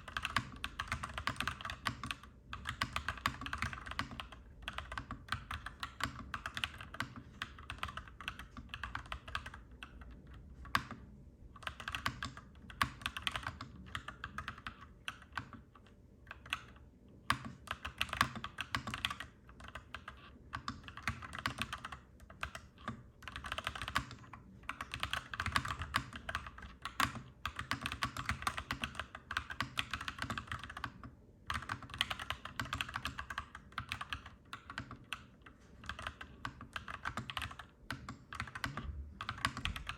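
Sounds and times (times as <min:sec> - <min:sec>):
mechanical keyboard typing: 0:00.0 - 0:11.0, 0:11.6 - 0:39.9.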